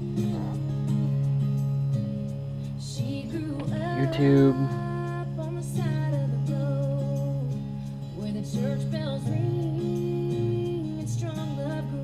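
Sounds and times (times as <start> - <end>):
song over stereo speakers: 0.0 - 12.0.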